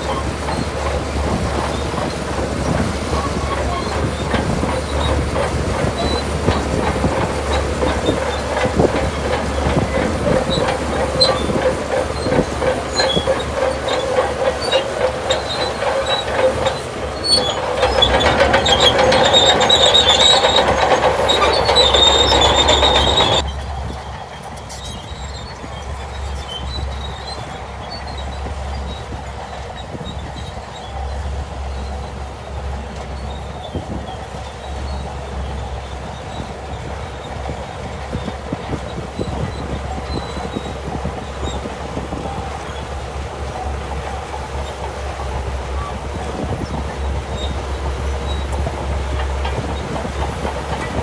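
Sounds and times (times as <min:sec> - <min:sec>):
bulldozer diesel engine running: 0:00.0 - 0:51.0
high squealing of steel tracks: 0:00.0 - 0:51.0
metallic clanking of tracks: 0:00.0 - 0:51.0.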